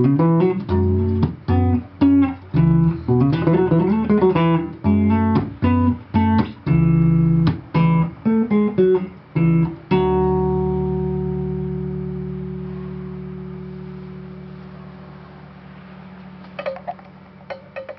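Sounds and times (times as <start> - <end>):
electric bass guitar plucked: 0.0 - 17.9.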